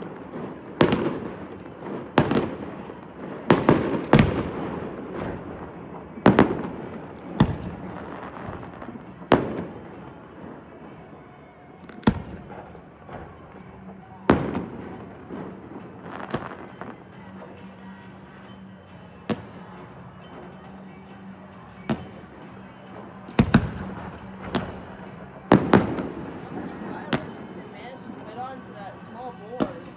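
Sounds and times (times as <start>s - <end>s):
fireworks booming: 0.0s - 21.0s, 21.6s - 29.9s.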